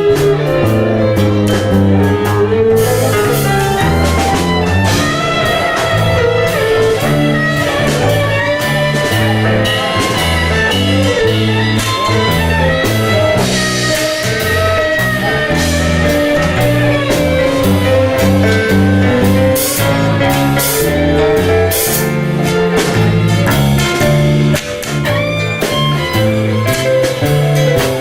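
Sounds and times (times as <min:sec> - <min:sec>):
drum strokes: 0:00.0 - 0:28.0
live band playing tango: 0:00.0 - 0:28.0.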